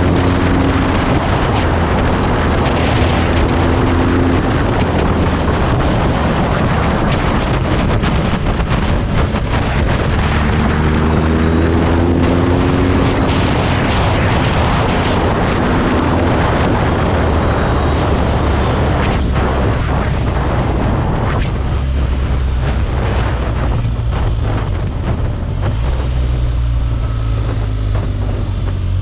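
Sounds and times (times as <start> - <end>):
motorcycle engine: 0.0 - 29.0
wind buffeting microphone: 0.0 - 29.0.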